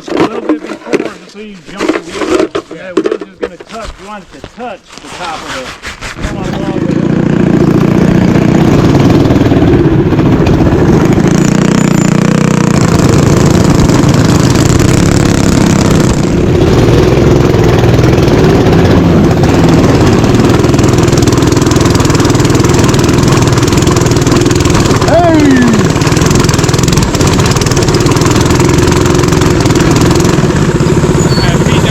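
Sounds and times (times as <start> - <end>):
mini bike engine running: 0.0 - 3.2, 5.2 - 31.9.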